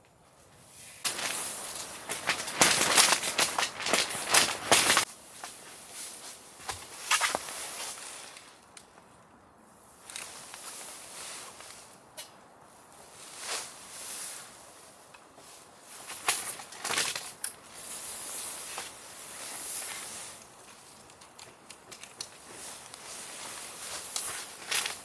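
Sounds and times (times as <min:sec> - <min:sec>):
rustling of camping gear: 0:00.0 - 0:25.0.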